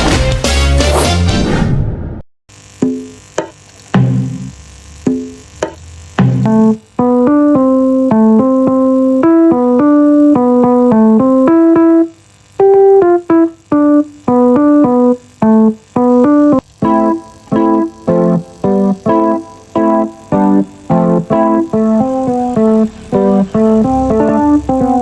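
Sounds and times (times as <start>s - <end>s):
electric piano chords: 2.8s - 25.0s.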